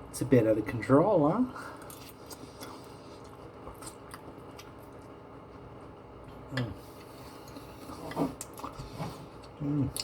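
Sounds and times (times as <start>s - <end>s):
person chewing with mouth smacks: 1.8s - 10.0s.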